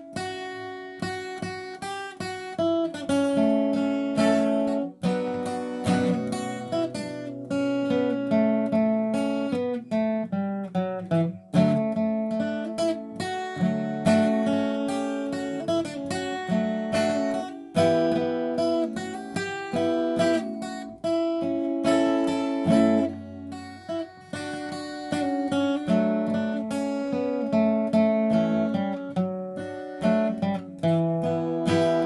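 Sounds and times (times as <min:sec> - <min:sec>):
acoustic guitar melody: 0:00.0 - 0:32.0.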